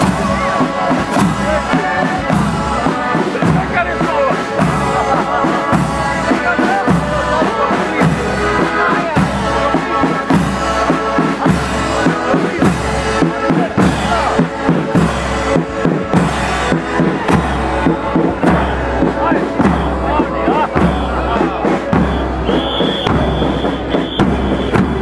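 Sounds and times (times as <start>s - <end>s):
bass drums beating: 0.0s - 25.0s
marching band playing: 0.0s - 25.0s.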